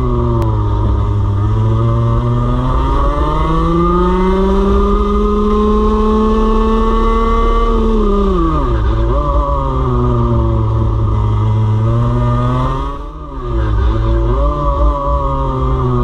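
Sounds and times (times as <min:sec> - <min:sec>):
kart engine revving: 0:00.0 - 0:16.0.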